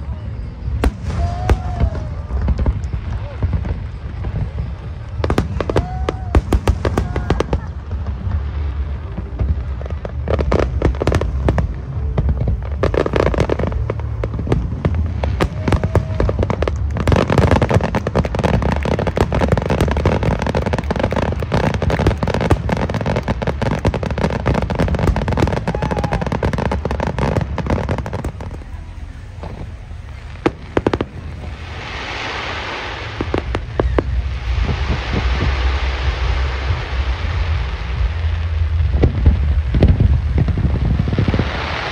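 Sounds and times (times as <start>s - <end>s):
fireworks bangs and crackles: 0.0s - 41.9s
low rumble: 0.0s - 41.9s.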